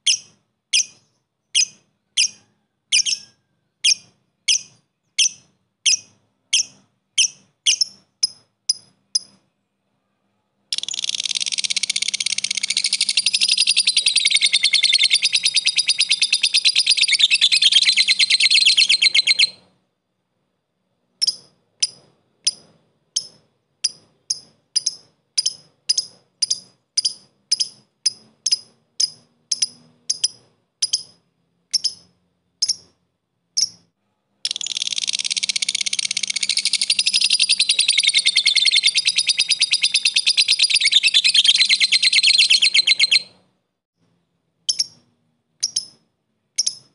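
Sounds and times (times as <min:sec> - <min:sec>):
bird chattering trill: 0:00.0 - 0:09.4, 0:10.7 - 0:19.6, 0:21.2 - 0:32.9, 0:33.6 - 0:33.9, 0:34.5 - 0:43.4, 0:44.7 - 0:46.0, 0:46.6 - 0:46.9
bird sharp ticking chirps: 0:00.0 - 0:09.5, 0:10.7 - 0:19.7, 0:21.2 - 0:33.9, 0:34.5 - 0:43.4, 0:44.7 - 0:46.9.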